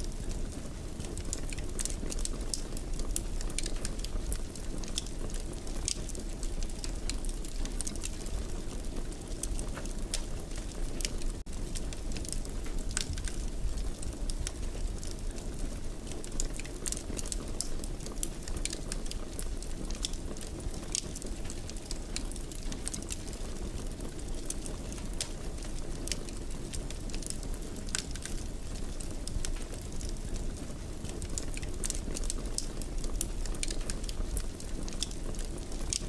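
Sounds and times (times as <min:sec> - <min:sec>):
fire crackles and pops: 0:00.0 - 0:36.0
fire rumbling in fireplace: 0:00.0 - 0:36.0.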